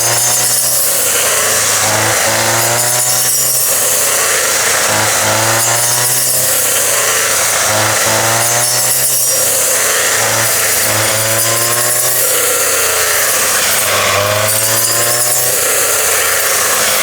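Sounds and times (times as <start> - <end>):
threshing machine motor running: 0.0 - 17.0.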